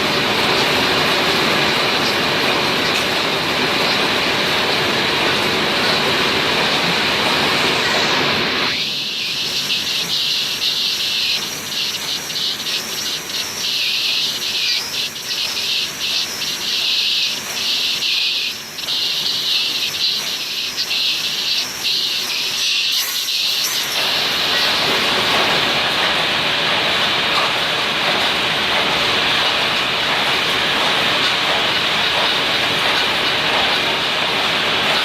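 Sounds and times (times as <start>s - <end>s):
welding machine hissing: 0.0s - 35.0s.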